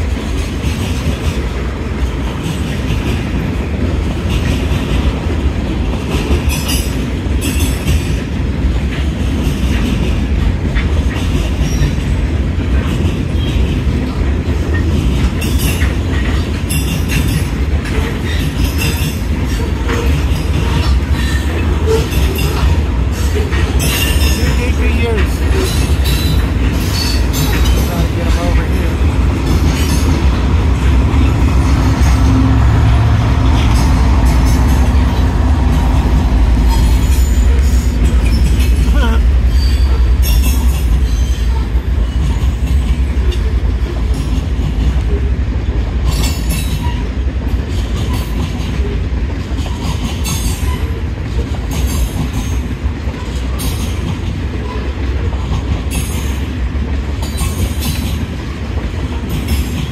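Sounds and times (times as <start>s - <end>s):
freight train rumbling past: 0.0s - 59.9s
wheels clacking over rail joints: 0.0s - 59.9s.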